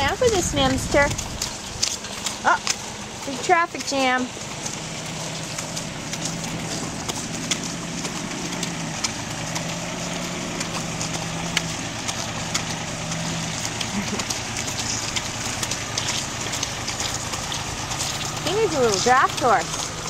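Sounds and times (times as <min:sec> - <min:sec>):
cart wheels rattling and crunching: 0:00.0 - 0:20.0
pony hooves clicking on road: 0:00.0 - 0:20.0
tractor engine idling: 0:00.0 - 0:20.0.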